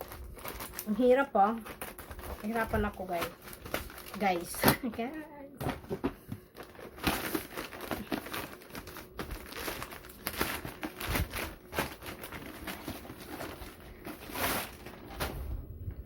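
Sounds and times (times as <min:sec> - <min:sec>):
packaging crinkling and rustling: 0:00.0 - 0:15.6.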